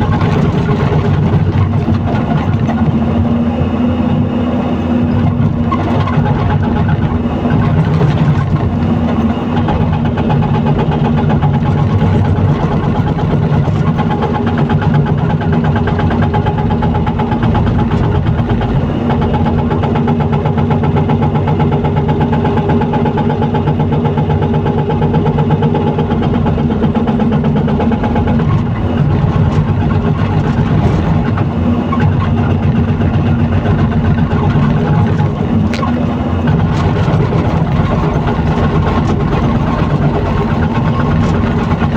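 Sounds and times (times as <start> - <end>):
excavator diesel engine droning: 0.0 - 41.9.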